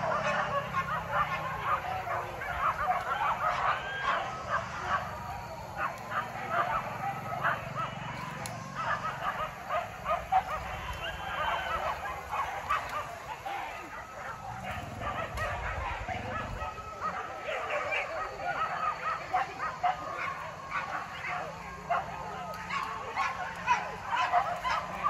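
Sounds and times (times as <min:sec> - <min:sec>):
dogs yelping and barking: 0:00.0 - 0:25.0.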